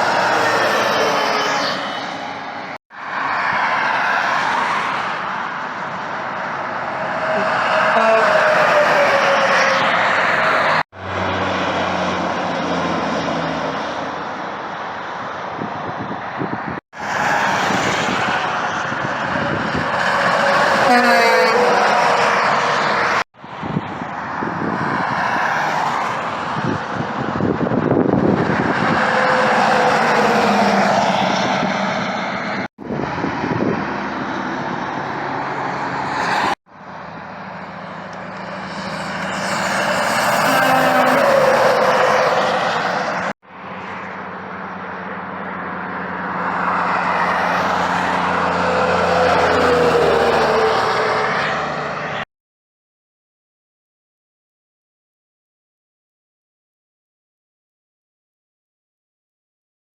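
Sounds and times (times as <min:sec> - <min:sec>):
traffic passing on a highway: 0:00.0 - 0:52.3.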